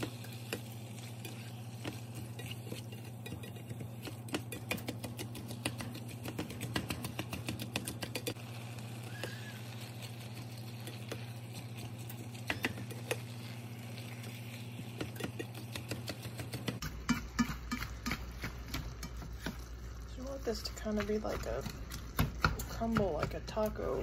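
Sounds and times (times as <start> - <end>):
utensil scraping skillet: 0.0 - 24.0.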